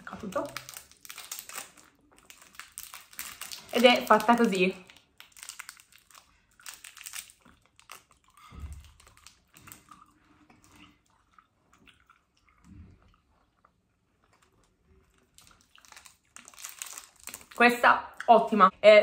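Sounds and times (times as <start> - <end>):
chewing taffy: 0.4 - 17.6.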